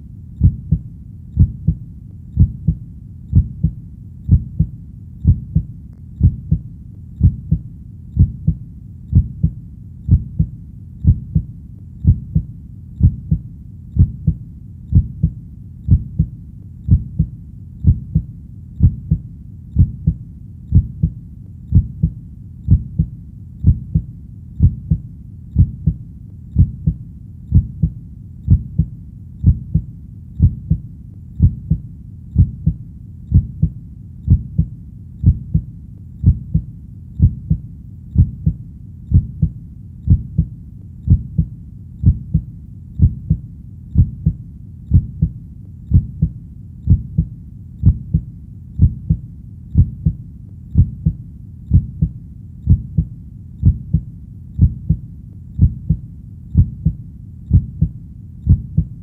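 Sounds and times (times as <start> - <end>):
heartbeat thumping: 0.4 - 43.4, 44.0 - 55.0, 55.6 - 59.0.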